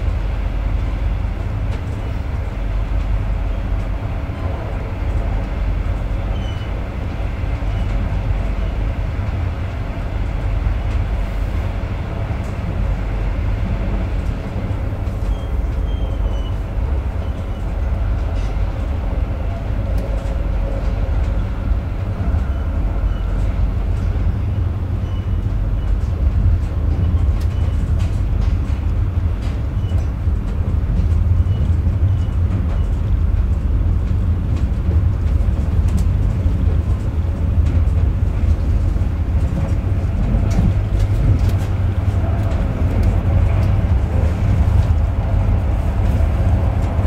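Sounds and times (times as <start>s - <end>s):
wheels rumbling on rails: 0.0s - 47.0s.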